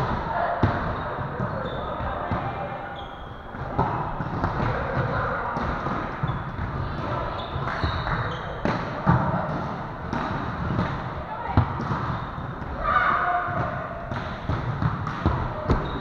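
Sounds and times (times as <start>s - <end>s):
volleyball slaps: 0.0s - 2.6s, 3.5s - 16.0s
hall echo: 0.0s - 16.0s.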